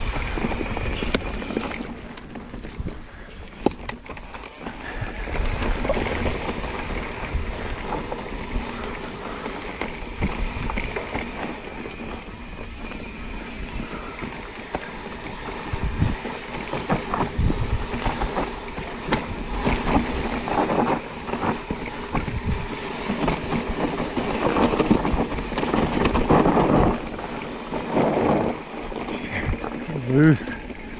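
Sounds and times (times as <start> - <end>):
bike rattling over bumps: 0.0 - 30.9
tyres rolling on dirt and rock: 0.0 - 30.9
wind on microphone: 0.0 - 30.9.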